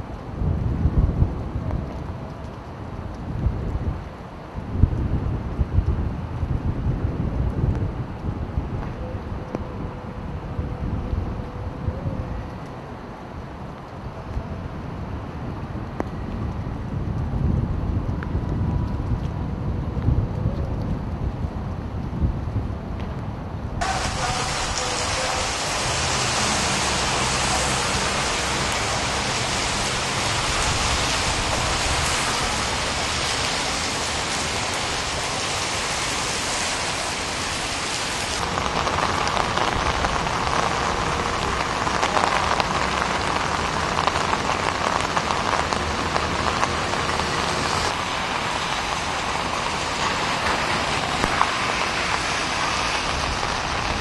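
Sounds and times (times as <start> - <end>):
heavy rain on pavement: 0.0 - 11.6, 12.3 - 54.0.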